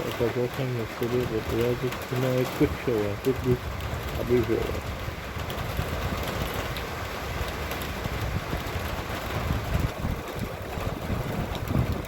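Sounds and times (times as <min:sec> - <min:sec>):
rain falling: 0:00.0 - 0:12.0
raindrop ticks: 0:00.0 - 0:12.0.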